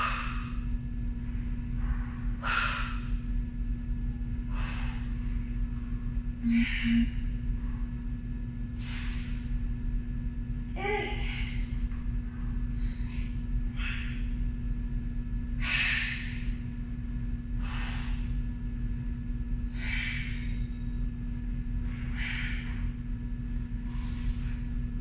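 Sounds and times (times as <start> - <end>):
woman breathing forcefully: 0.0 - 3.4, 4.2 - 9.8, 10.8 - 14.7, 15.5 - 25.0
steady low hum: 0.0 - 25.0.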